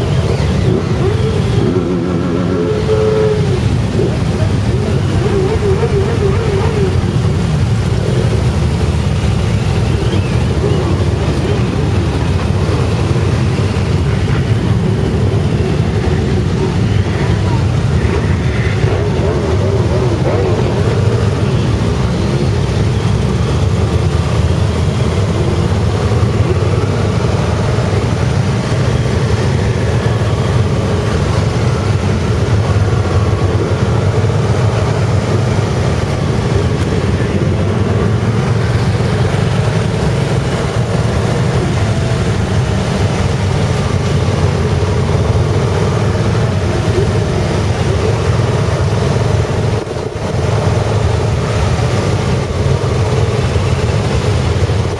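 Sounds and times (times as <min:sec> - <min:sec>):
motorcycle engines running: 0:00.0 - 0:54.9.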